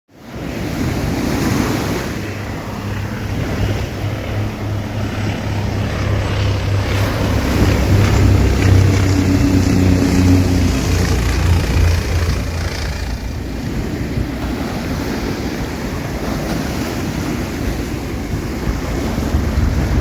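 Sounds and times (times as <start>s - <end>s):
sea waves washing on beach: 0.2s - 20.0s
wind buffeting microphone: 0.3s - 20.0s.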